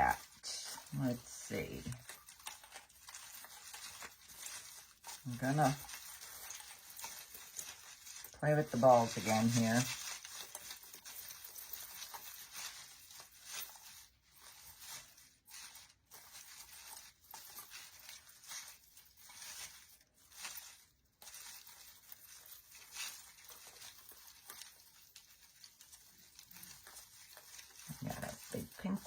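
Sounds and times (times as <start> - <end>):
artificial pine branches rustling: 0.0 - 29.0.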